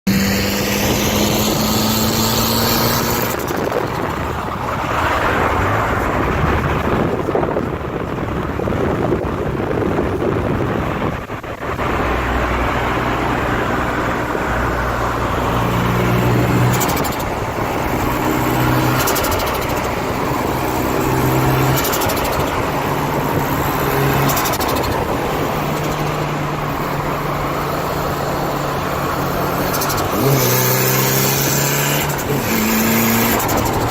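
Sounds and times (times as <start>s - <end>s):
turbocharged car engine revving: 0.0s - 7.5s, 10.4s - 33.9s.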